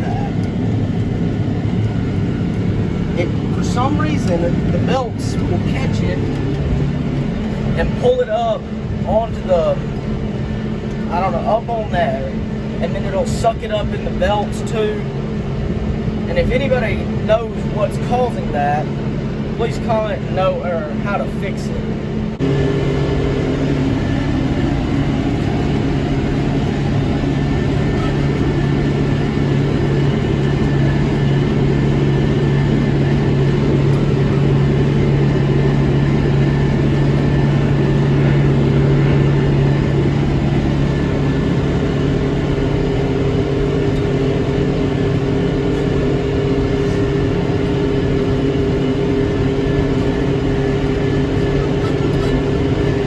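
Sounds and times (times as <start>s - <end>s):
tractor and baler droning: 0.0s - 53.0s.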